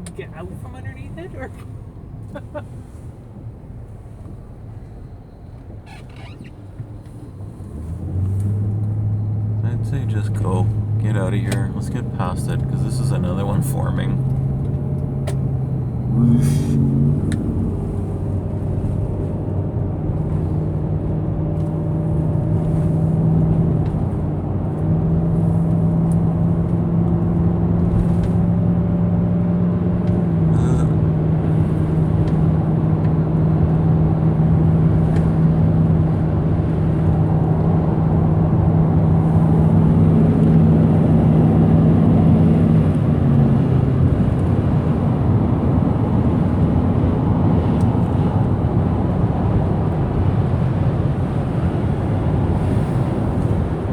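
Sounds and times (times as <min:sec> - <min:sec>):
car engine hum: 0:00.0 - 0:53.9
tyre and road rumble: 0:05.5 - 0:53.9.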